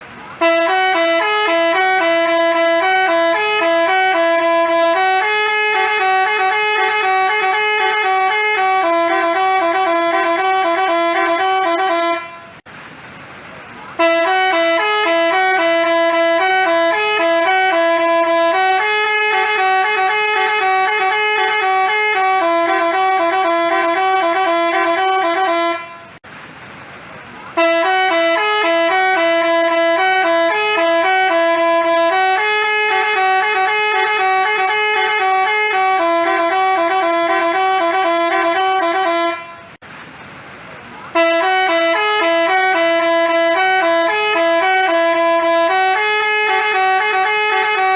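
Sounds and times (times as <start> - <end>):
multi-tone bus horn tune: 0.0 - 12.7, 13.8 - 26.2, 27.5 - 39.8, 41.1 - 47.9.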